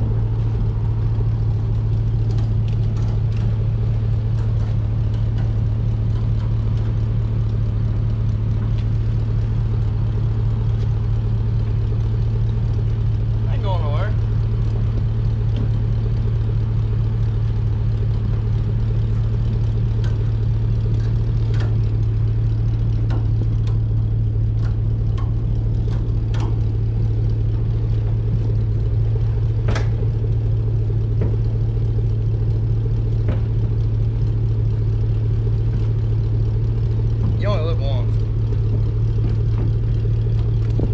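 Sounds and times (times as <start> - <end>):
truck driving drone: 0.0 - 40.9.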